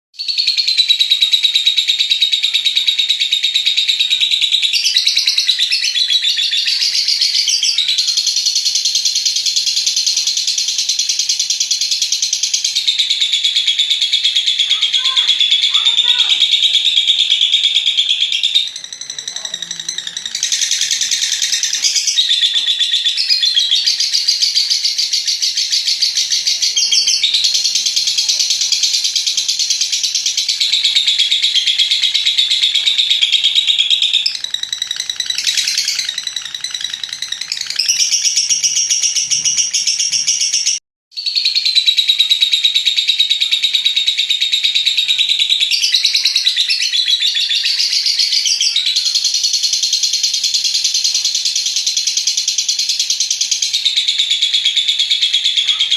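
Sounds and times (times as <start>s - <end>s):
lovebird chattering trill: 0.2s - 55.9s.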